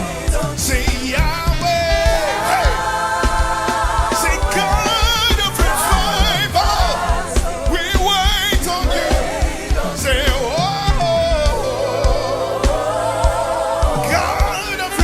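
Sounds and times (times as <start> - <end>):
keyboard chords: 0.0 - 15.0
person singing with vibrato: 0.0 - 15.0
steady drum beat: 0.0 - 15.0.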